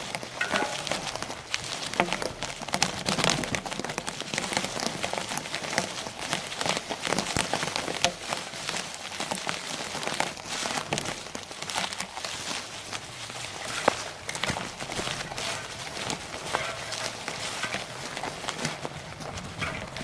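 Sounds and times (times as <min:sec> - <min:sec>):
bicycle rattling on bumpy trail: 0:00.0 - 0:20.0
tyres crunching on ground: 0:00.0 - 0:20.0.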